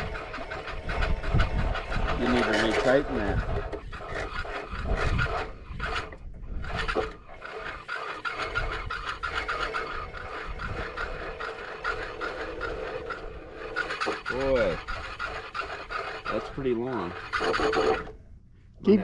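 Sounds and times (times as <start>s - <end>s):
steel cable scraping over drum: 0.0s - 18.3s.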